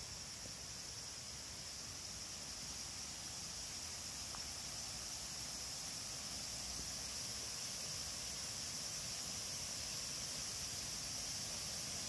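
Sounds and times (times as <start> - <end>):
high insect drone: 0.0 - 12.0
low rushing hiss: 0.0 - 12.0.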